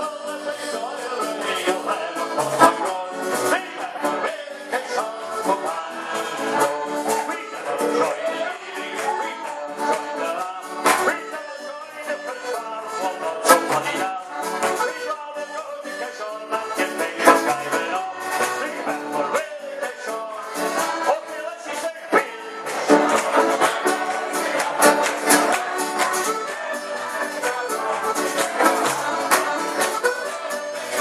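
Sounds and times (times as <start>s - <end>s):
live band playing folk song: 0.0s - 31.0s.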